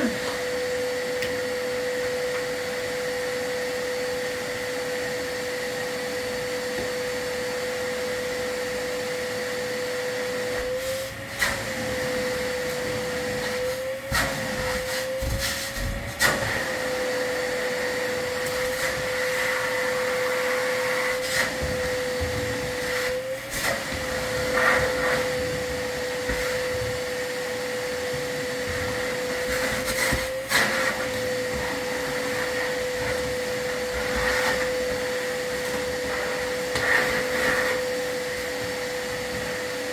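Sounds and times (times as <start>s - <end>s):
vacuum cleaner whining: 0.0s - 39.9s.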